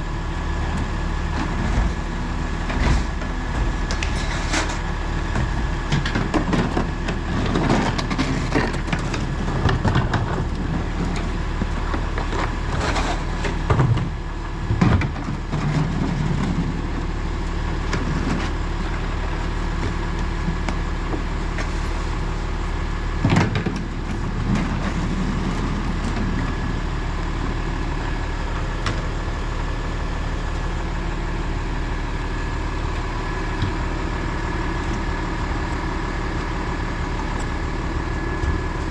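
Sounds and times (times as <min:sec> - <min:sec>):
garbage truck engine running: 0:00.0 - 0:38.9.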